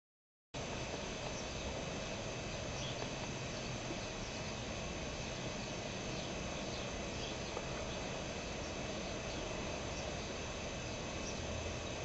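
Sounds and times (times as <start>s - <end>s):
outdoor background hiss: 0.6s - 12.0s.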